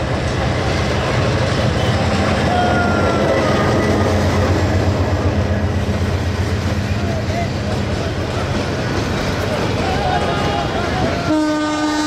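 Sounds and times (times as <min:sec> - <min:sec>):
diesel locomotive engine droning: 0:00.0 - 0:12.0
train coaches rumbling on rails: 0:00.0 - 0:12.0.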